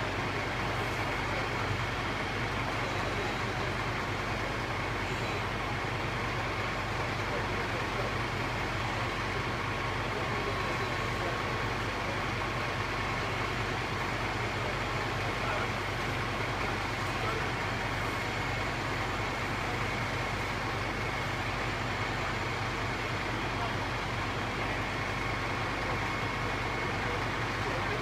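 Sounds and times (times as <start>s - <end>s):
fire engine running: 0.0s - 28.0s.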